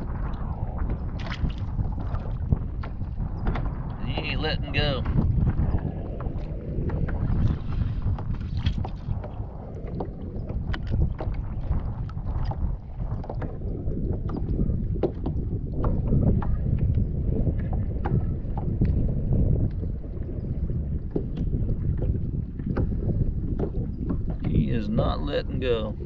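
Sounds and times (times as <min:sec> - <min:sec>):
water lapping against kayak: 0:00.0 - 0:26.0
wind rumbling on microphone: 0:00.0 - 0:26.0.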